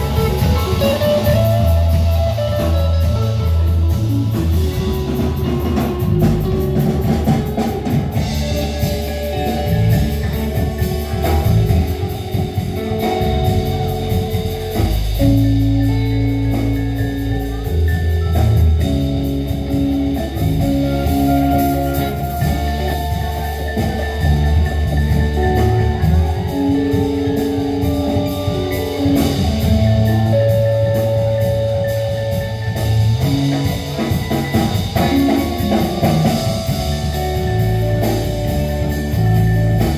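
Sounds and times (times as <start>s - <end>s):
drum kit beat: 0.0s - 39.9s
electric bass: 0.0s - 39.9s
electric guitar: 0.0s - 39.9s
mallet keyboard: 0.0s - 39.9s.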